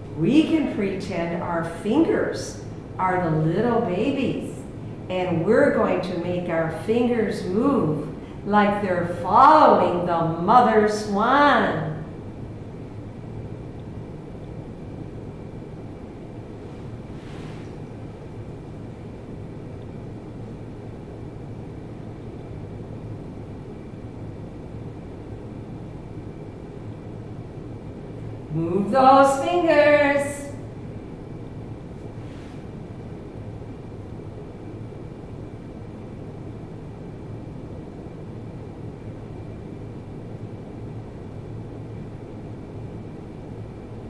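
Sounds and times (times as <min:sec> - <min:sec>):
faint hum: 0:00.0 - 0:44.0
low rumble and hiss: 0:00.0 - 0:44.0.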